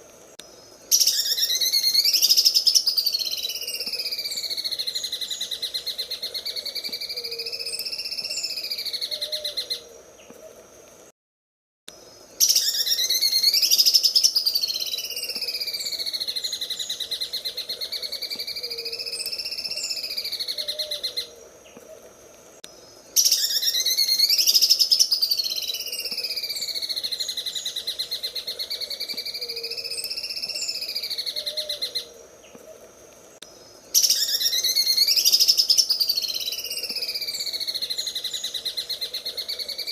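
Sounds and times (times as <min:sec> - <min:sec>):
bird singing buzzing trill: 0:00.5 - 0:10.3, 0:12.0 - 0:21.8, 0:22.7 - 0:32.6, 0:33.4 - 0:39.9.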